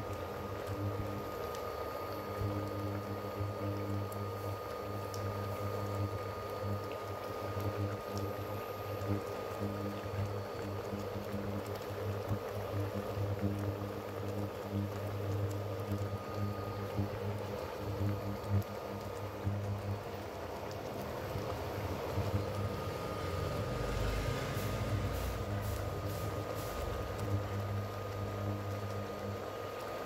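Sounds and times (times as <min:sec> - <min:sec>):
gravy bubbling in a pot: 0:00.0 - 0:30.0
low hum: 0:02.2 - 0:29.8.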